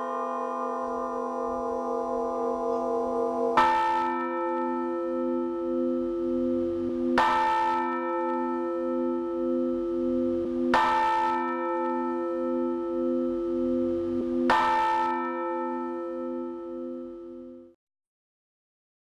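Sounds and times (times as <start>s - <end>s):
church bell strokes: 0.0s - 17.8s
deep bell hum: 0.0s - 17.8s.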